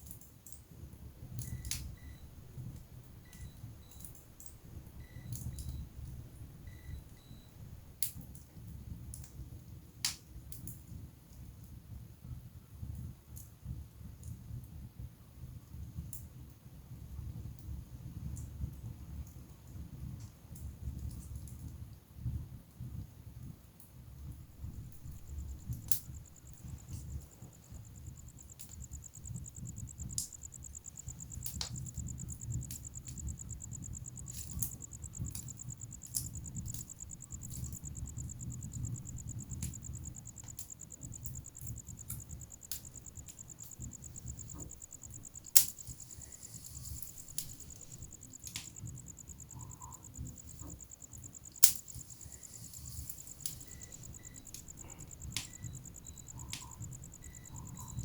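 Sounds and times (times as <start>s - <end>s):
wood fire crackling: 0.0s - 12.2s, 15.5s - 58.0s.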